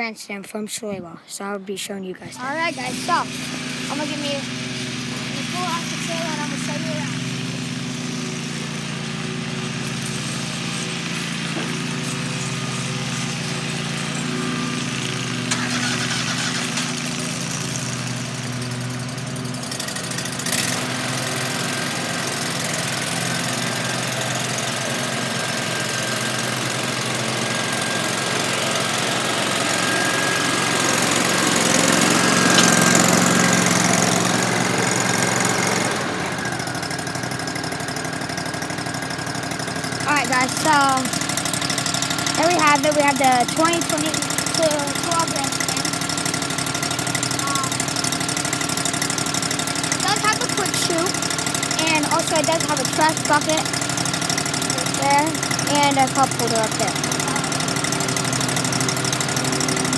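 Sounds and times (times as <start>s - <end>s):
engine running steadily: 2.3s - 59.9s.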